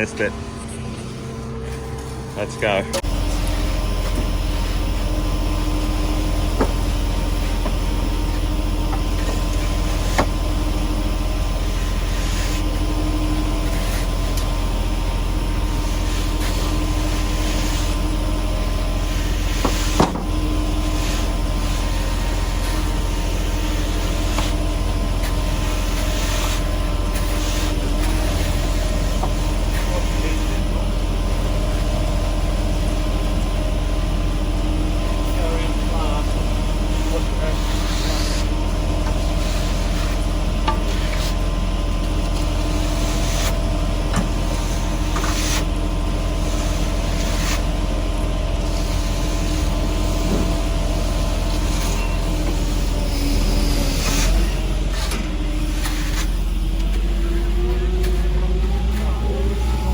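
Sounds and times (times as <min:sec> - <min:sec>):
diesel engine running: 0:00.0 - 0:59.9
concrete pouring: 0:03.0 - 0:30.8, 0:35.0 - 0:59.7.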